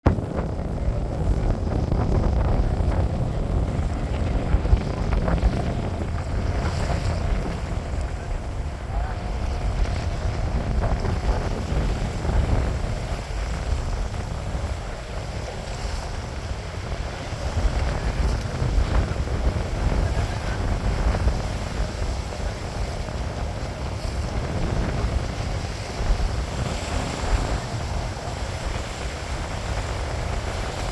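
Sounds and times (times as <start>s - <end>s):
wind buffeting microphone: 0.0s - 30.9s
sea water rushing: 0.1s - 30.9s.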